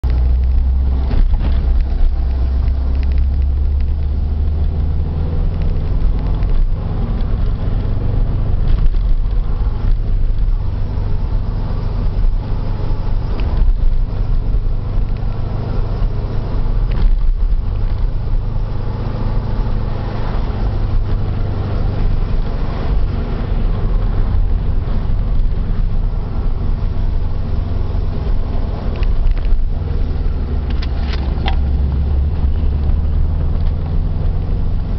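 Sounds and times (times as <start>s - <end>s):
car road and drivetrain rumble: 0.0s - 34.9s.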